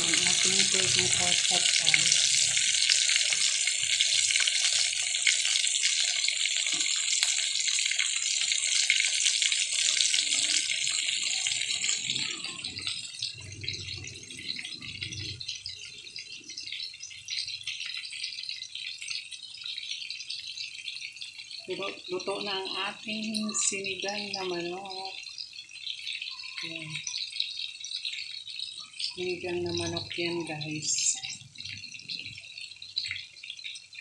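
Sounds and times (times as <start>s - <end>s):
meat sizzling in hot oil: 0.0s - 34.0s.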